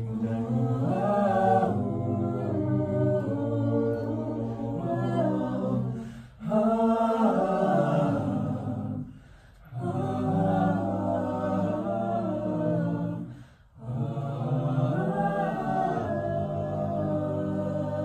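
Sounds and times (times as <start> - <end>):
a cappella group singing chords: 0.0 - 18.0.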